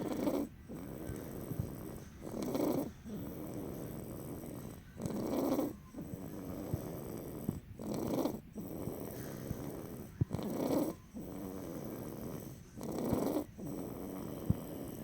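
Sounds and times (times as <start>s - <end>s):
person snoring: 0.0s - 15.0s
soft steady breathing: 0.0s - 15.0s.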